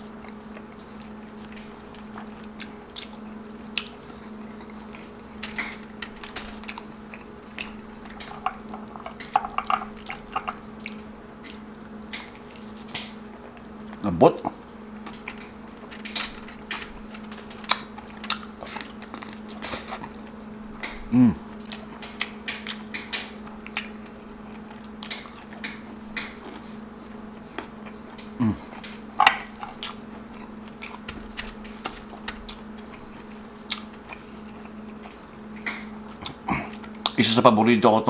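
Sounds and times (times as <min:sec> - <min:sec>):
chewing and lip smacks: 0:00.0 - 0:37.2
steady low hum: 0:00.0 - 0:38.0.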